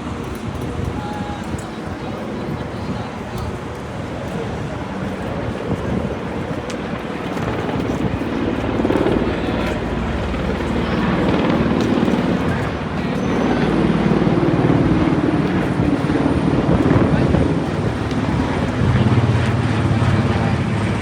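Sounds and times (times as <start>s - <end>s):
helicopter rotor chop: 0.0s - 21.0s.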